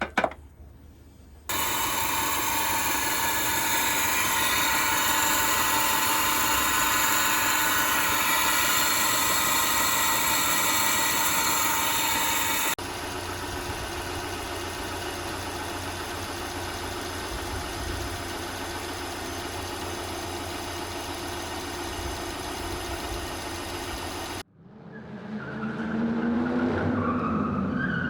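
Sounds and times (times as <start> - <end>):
car engine idling: 1.5 - 24.4.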